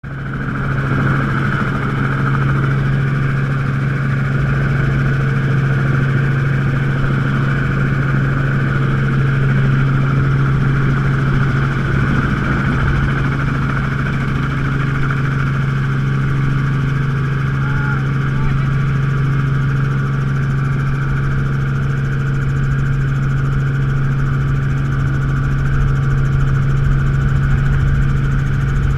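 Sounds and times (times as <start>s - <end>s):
helicopter running: 0.0s - 28.9s.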